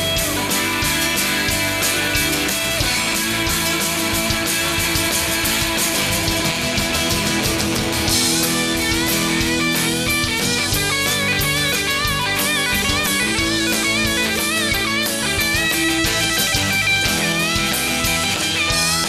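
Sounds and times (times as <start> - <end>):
country-rock band playing: 0.0 - 19.0
lead electric guitar bent notes: 0.0 - 19.0.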